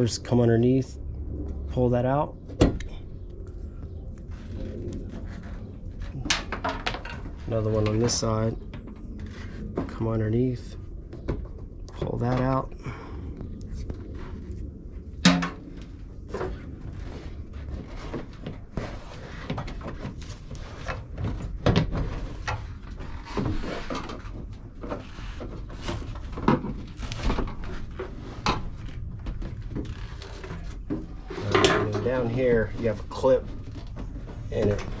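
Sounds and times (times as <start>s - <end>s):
low steady rumble: 0.0s - 35.0s.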